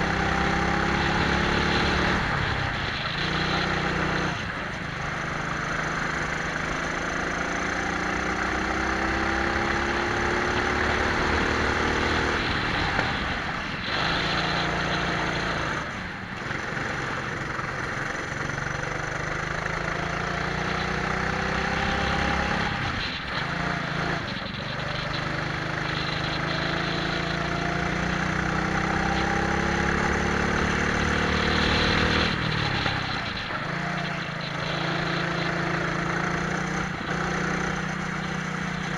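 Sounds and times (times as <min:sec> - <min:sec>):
kart engines revving: 0:00.0 - 0:38.9
wind and road noise: 0:00.0 - 0:38.9.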